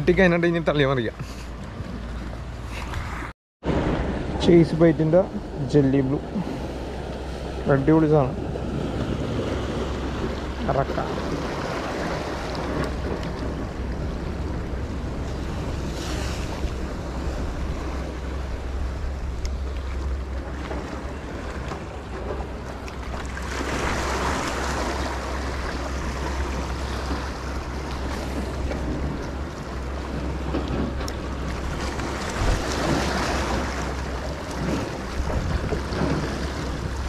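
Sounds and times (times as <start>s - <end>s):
wind rumbling on microphone: 1.5s - 37.0s
seawater washing against rocks: 3.0s - 37.0s.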